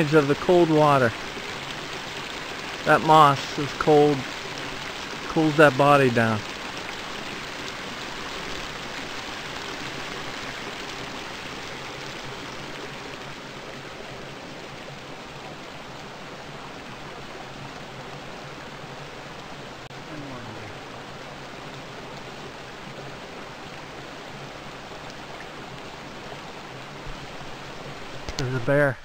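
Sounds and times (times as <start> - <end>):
creek running over stones: 0.0 - 29.0.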